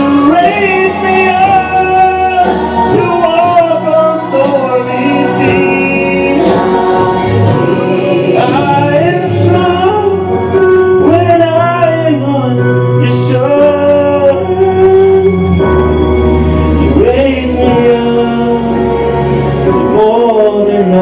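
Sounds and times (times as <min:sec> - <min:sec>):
man singing into a microphone: 0:00.0 - 0:15.6, 0:16.8 - 0:21.0
musical accompaniment with bass: 0:00.0 - 0:21.0.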